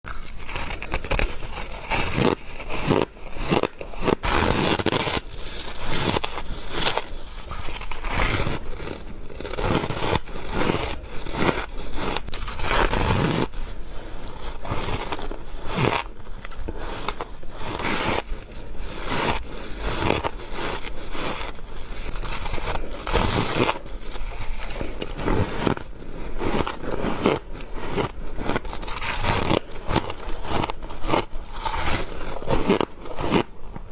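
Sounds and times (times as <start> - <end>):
chewing crunchy freezer frost: 0.1 - 33.9.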